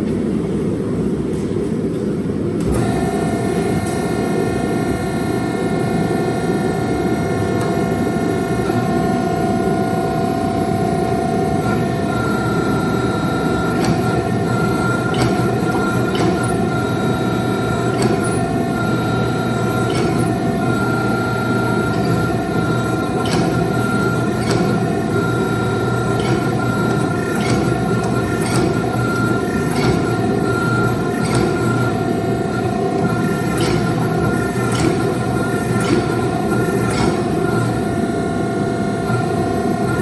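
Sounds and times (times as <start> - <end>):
constant machine whine: 0.0 - 40.0
workshop machinery rumbling: 2.6 - 40.0.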